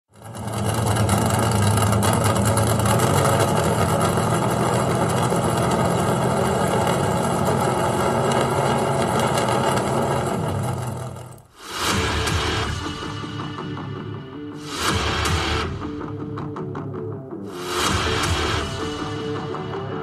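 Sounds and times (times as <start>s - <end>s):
racing engines droning: 0.1s - 16.5s.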